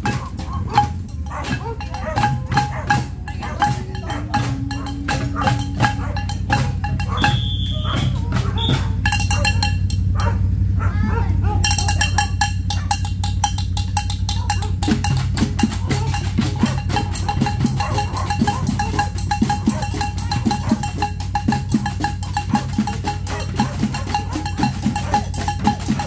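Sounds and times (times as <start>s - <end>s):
pots and tin cans beaten with sticks: 0.0s - 10.4s, 11.1s - 26.0s
steady low hum: 0.0s - 26.0s.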